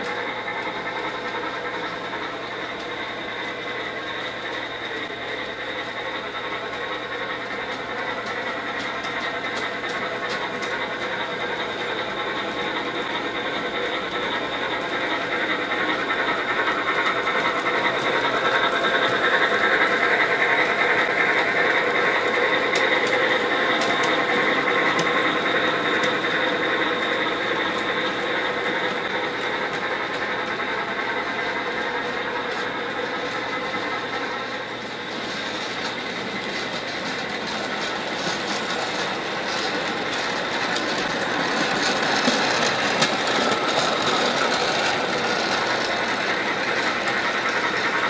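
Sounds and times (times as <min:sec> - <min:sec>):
model train motor whirring: 0:00.0 - 0:48.0
wheels rolling on rails: 0:00.0 - 0:48.0.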